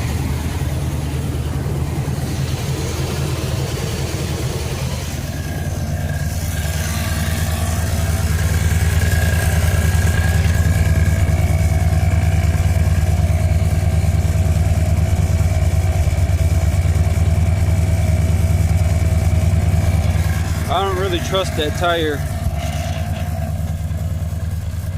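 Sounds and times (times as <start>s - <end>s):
truck engine running: 0.0s - 24.9s.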